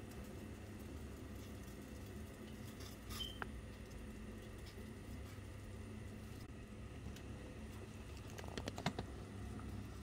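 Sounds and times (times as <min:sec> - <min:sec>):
pot of water boiling: 0:00.0 - 0:10.0.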